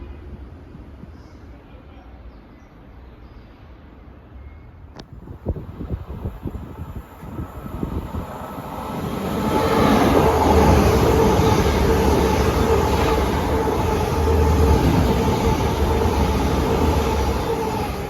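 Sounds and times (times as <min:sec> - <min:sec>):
trains passing at speed: 0:00.0 - 0:02.0, 0:05.2 - 0:18.0.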